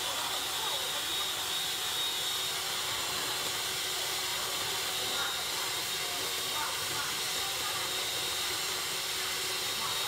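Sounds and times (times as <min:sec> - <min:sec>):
stand mixer whirring: 0:00.0 - 0:10.0.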